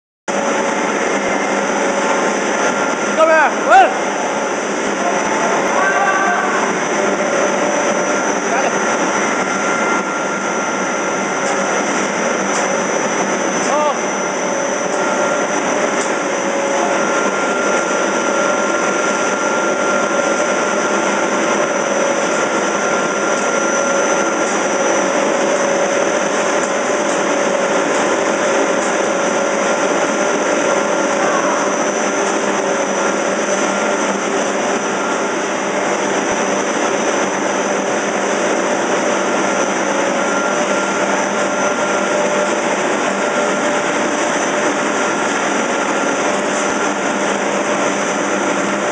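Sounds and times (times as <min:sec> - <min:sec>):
machine whine and hiss: 0:00.3 - 0:48.9.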